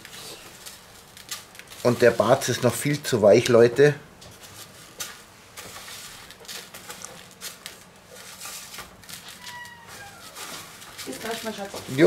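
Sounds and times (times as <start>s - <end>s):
rustling of sprinkles: 0.0s - 12.0s.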